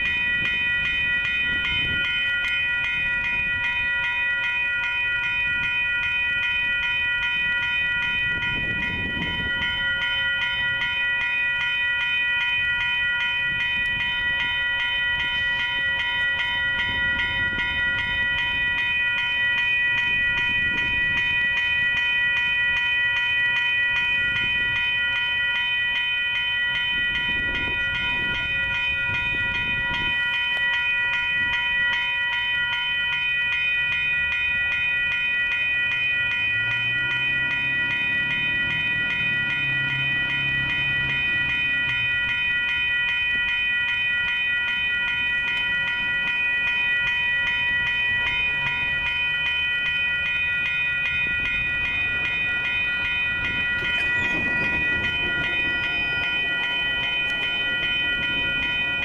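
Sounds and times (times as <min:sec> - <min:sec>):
railroad crossing bell ringing: 0:00.0 - 0:59.0.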